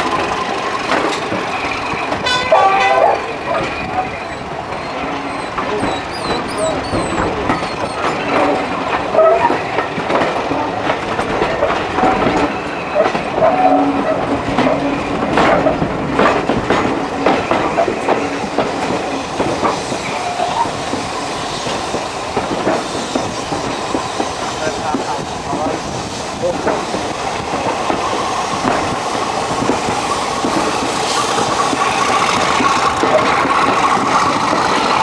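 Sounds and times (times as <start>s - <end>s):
train rumble: 0.0s - 35.0s
train wheels clicking over joints: 0.0s - 35.0s.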